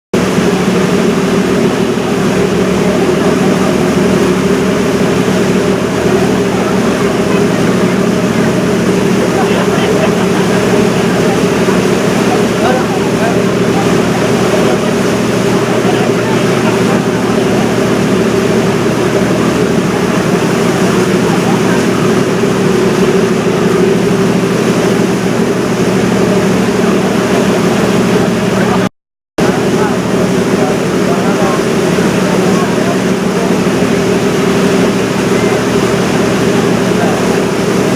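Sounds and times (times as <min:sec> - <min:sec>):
boat engine droning: 0:00.2 - 0:37.9
rush of water: 0:00.2 - 0:37.9.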